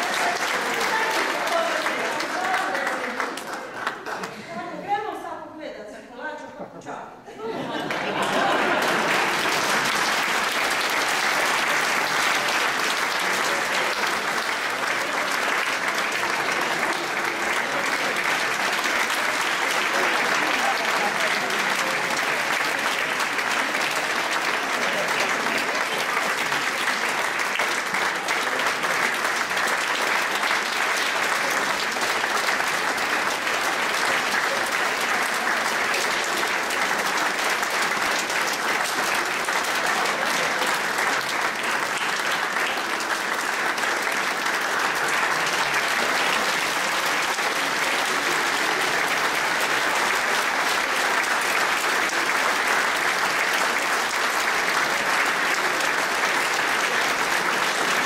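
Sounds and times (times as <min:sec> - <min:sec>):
audience applauding: 0:00.0 - 0:04.7, 0:07.6 - 0:58.0.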